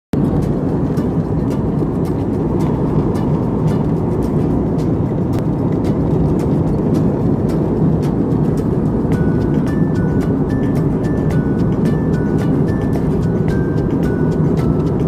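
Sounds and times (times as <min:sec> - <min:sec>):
airliner cabin engine drone: 0:00.2 - 0:15.0.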